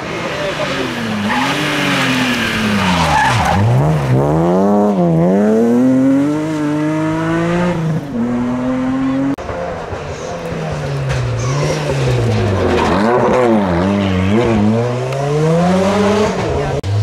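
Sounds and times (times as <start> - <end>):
rally car engine revving: 0.0 - 17.0
tyres skidding: 0.0 - 17.0.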